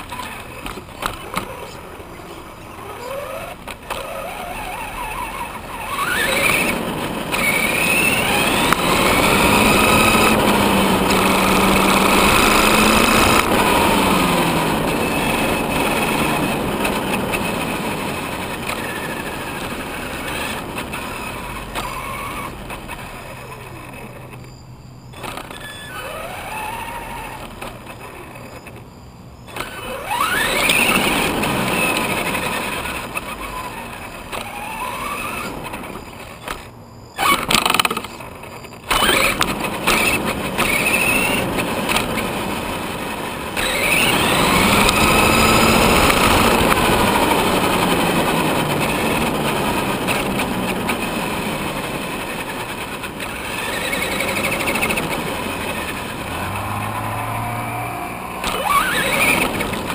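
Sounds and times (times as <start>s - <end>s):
electric motor whining: 0.0s - 24.5s, 25.1s - 59.9s
tyre noise on asphalt: 0.0s - 59.9s.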